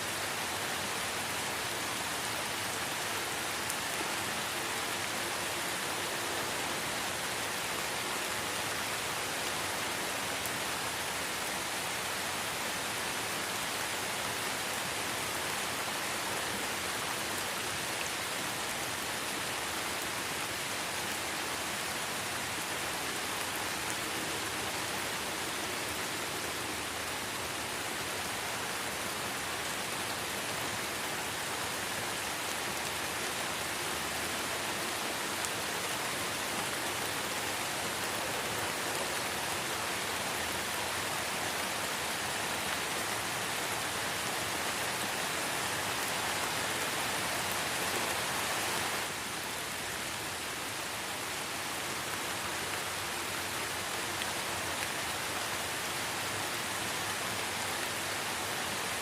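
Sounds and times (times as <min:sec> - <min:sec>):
light rain on leaves: 0:00.0 - 0:59.0.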